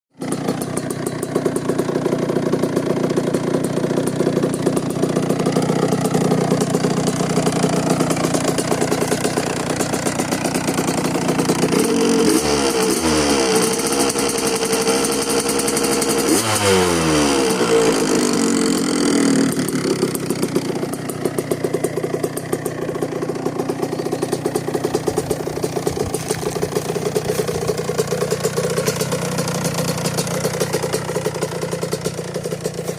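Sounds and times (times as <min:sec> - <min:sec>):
motorcycle engine idling and revving: 0:00.1 - 0:32.9.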